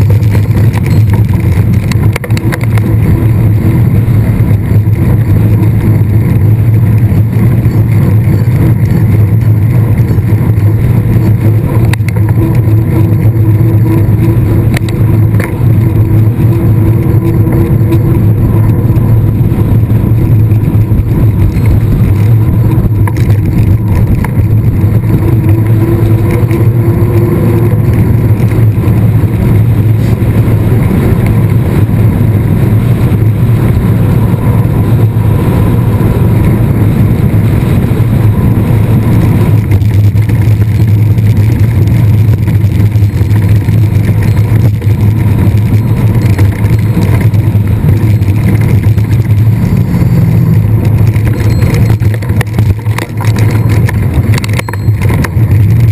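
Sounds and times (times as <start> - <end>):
bike tyre rumble: 0.0 - 55.9
wind rush: 0.0 - 55.9.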